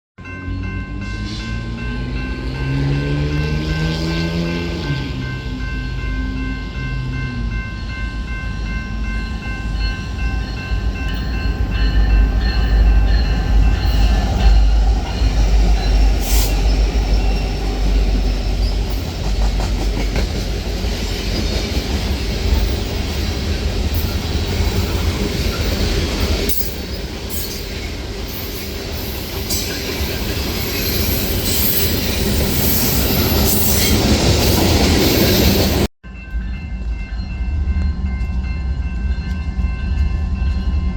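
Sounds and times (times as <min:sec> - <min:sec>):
train rumbling: 0:00.2 - 0:40.9.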